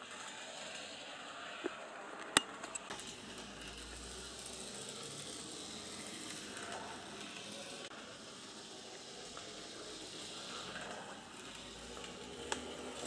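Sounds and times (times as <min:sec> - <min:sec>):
model locomotive whirring: 0:00.0 - 0:13.0.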